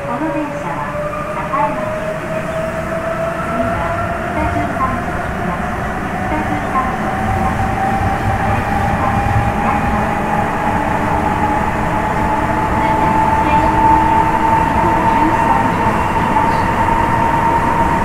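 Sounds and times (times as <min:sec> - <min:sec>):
train motor whine: 0:00.0 - 0:18.0.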